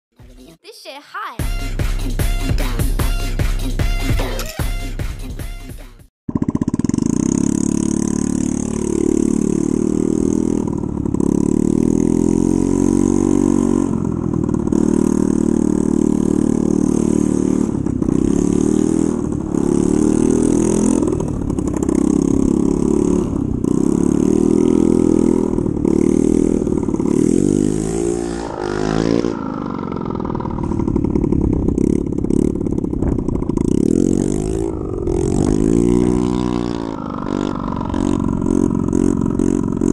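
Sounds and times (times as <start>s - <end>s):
scooter engine revving: 6.3s - 39.9s.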